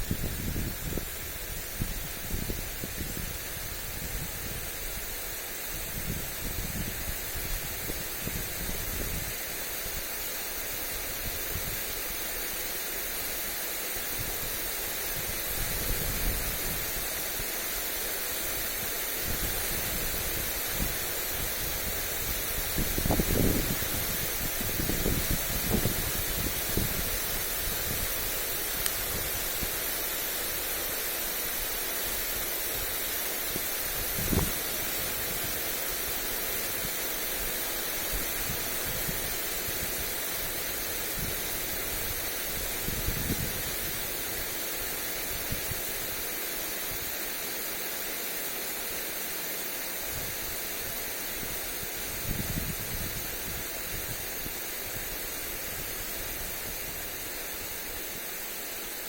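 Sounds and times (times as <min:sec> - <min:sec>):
wind gusts on microphone: 0:00.0 - 0:12.1, 0:14.1 - 0:17.6, 0:18.4 - 0:29.9, 0:32.8 - 0:46.2, 0:50.1 - 0:58.5
lawn sprinkler spraying water: 0:00.0 - 0:59.0.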